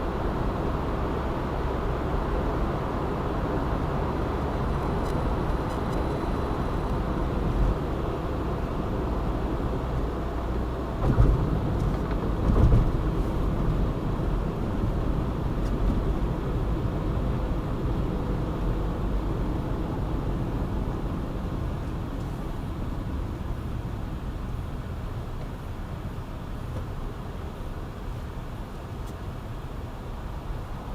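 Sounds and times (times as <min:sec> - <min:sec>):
car road and tyre noise: 0:00.0 - 0:30.9.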